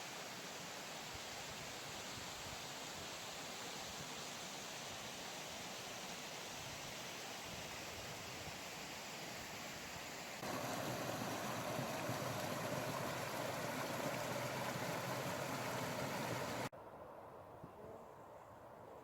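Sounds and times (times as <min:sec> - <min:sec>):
rushing stream water: 0:00.0 - 0:16.7.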